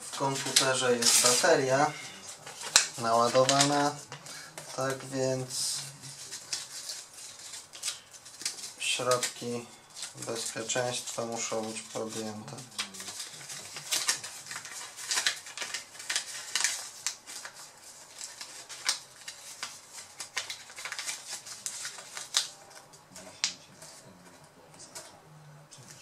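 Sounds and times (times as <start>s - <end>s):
tape crinkling: 0.0s - 25.1s.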